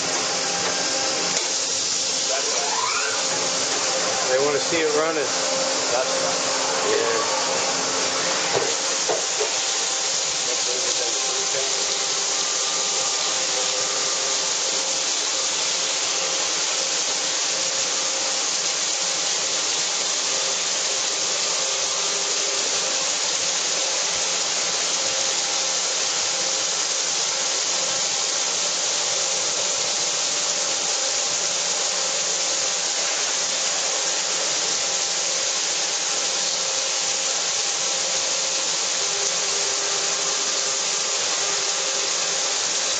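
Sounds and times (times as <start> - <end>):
coolant spray hissing: 0.0 - 42.9.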